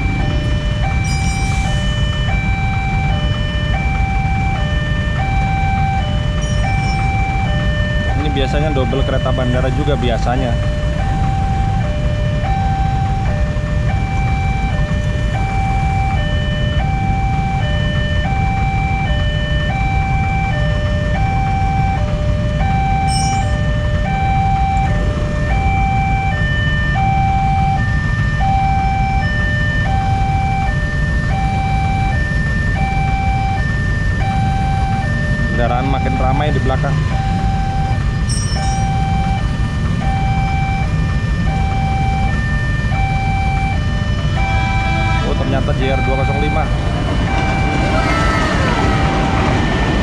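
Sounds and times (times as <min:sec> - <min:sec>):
level crossing two-tone alarm: 0:00.0 - 0:50.0.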